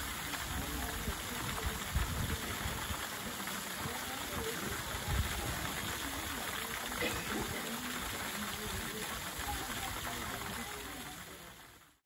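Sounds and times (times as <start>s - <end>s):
fountain jets splashing into pool: 0.0s - 12.0s.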